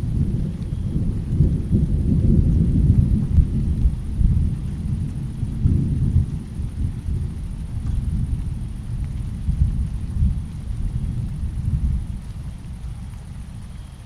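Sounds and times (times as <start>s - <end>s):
thunder rumbling: 0.0s - 13.9s.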